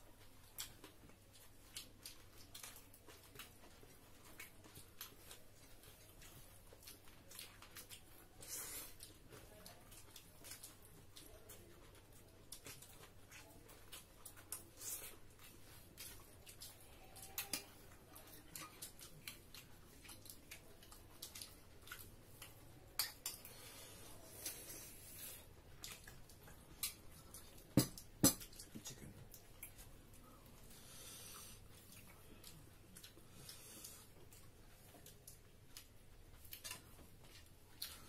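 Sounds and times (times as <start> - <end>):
soft eating noises: 0.0 - 38.0.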